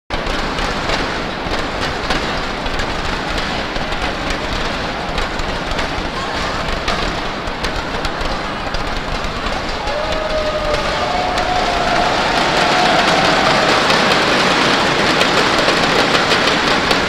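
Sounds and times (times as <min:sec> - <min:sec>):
crowd murmur in sports hall: 0:00.1 - 0:17.0
sharp knocks and clacks: 0:00.1 - 0:17.0.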